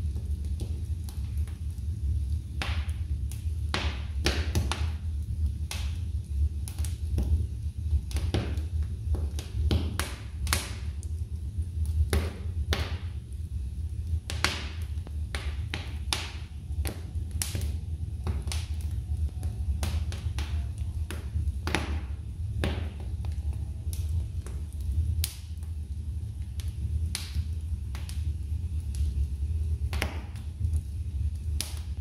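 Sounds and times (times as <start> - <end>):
fire crackling and popping: 0.0 - 32.0
low rumble: 0.0 - 32.0.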